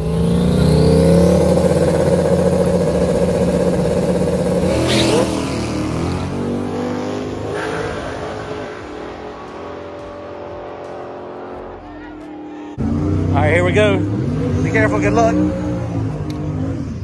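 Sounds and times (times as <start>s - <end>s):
drag car engine revving: 0.0s - 17.0s.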